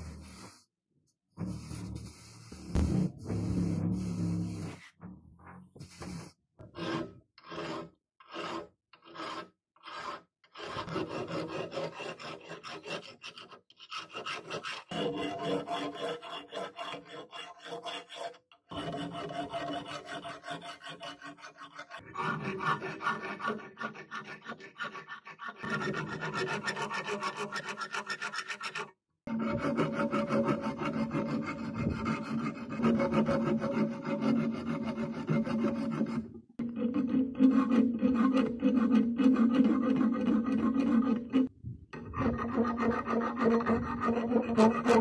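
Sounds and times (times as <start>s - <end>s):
file rasping on steel: 5.8s - 45.0s.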